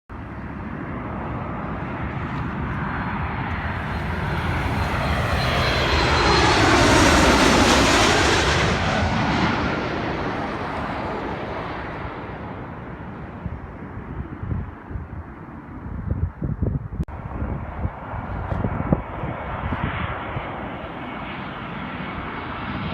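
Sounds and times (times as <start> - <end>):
airliner passing overhead: 0.1 - 22.9.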